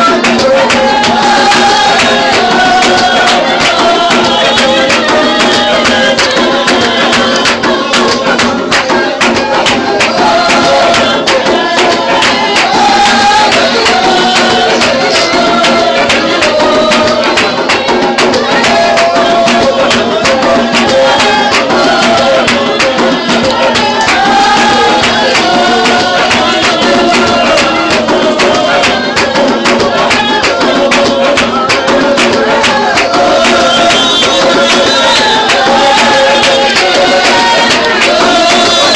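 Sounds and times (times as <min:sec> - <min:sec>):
congregation singing a hymn: 0:00.0 - 0:38.9
rhythmic percussive beat: 0:00.0 - 0:38.9.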